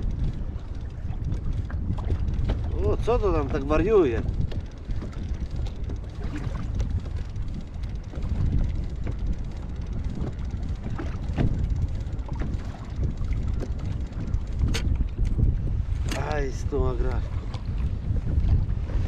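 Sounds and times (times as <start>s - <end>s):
water splashes: 0.0s - 7.2s, 10.0s - 19.0s
water sloshing against kayak: 0.0s - 19.0s
wind buffeting microphone: 0.0s - 19.0s.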